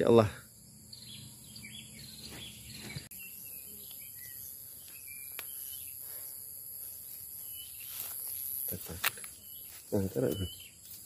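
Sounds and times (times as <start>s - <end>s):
faint bird chirps: 0.0s - 10.9s
insects buzzing: 0.0s - 11.0s.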